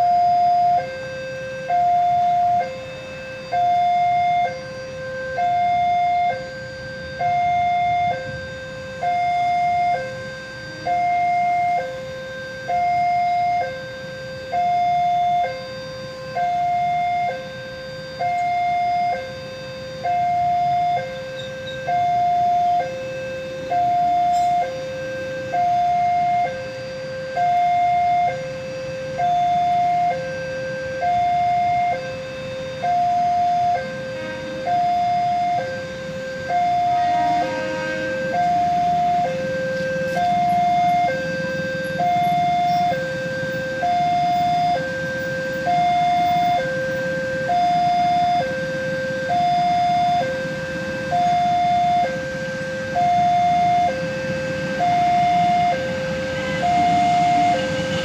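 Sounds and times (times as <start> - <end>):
level crossing two-tone alarm: 0.0 - 58.0.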